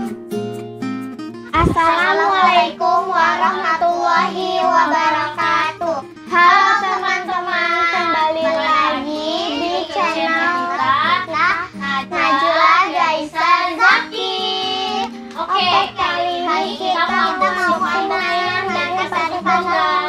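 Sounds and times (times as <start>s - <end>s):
background music: 0.0s - 20.0s
young voices singing together: 1.5s - 20.0s.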